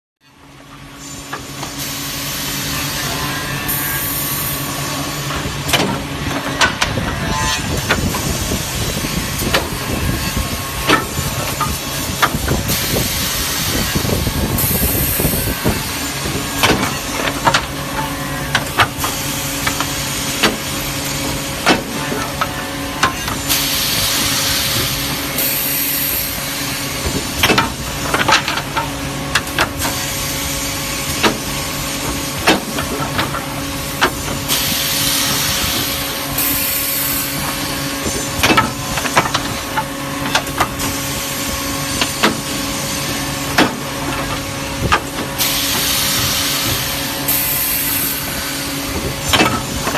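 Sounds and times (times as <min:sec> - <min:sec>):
machine hiss: 0:01.0 - 0:05.7, 0:07.3 - 0:28.2, 0:29.7 - 0:49.9.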